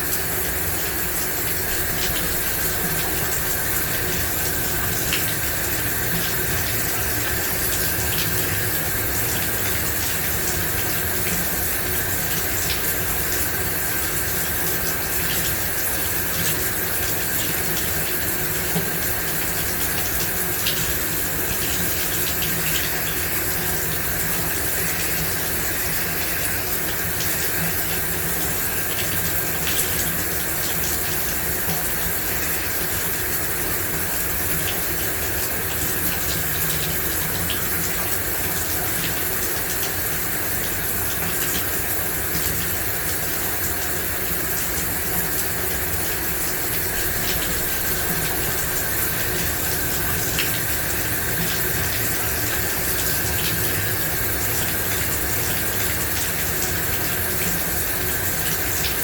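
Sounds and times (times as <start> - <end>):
shower water spraying: 0.0 - 59.0.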